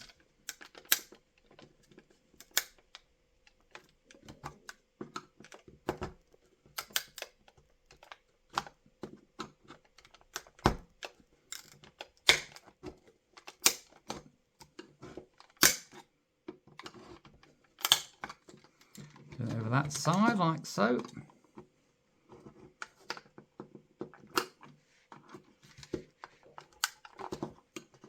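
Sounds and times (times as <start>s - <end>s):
plastic cracking and snapping: 0.0s - 20.5s, 22.3s - 28.0s.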